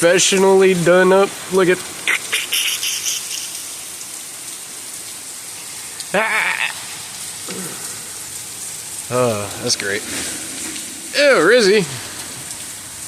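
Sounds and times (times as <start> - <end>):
steady rain: 0.0 - 13.0
water pouring from rain gutter: 0.0 - 13.0.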